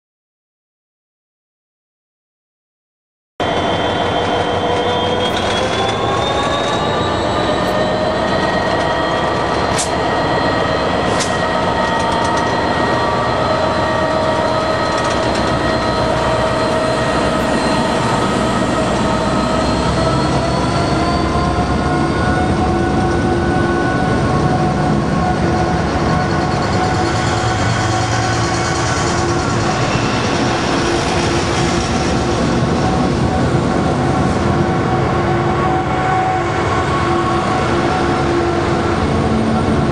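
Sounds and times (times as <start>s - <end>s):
diesel locomotive engines: 3.4s - 39.9s.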